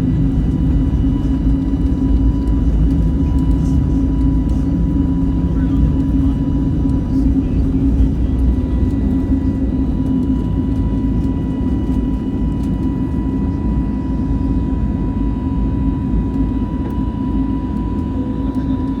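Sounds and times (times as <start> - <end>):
airplane cabin engine drone: 0.0 - 19.0.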